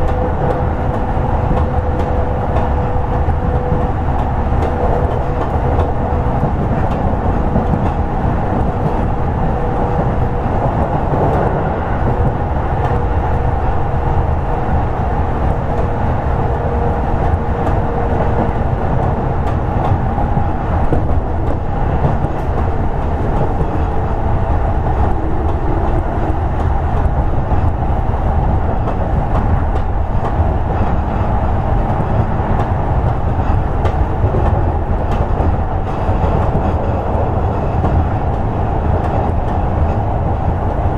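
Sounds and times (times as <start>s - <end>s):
electric train wheels rumbling: 0.0s - 40.9s.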